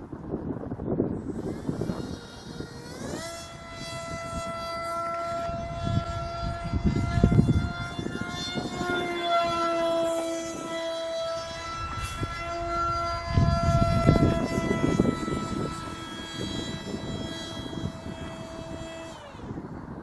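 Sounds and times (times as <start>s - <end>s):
wind gusts on microphone: 0.0s - 20.0s
model jet motor buzzing: 0.3s - 20.0s.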